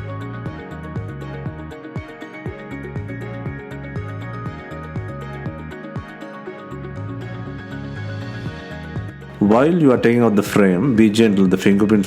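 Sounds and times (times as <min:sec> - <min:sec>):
electronic music with kick drum: 0:00.0 - 0:11.4.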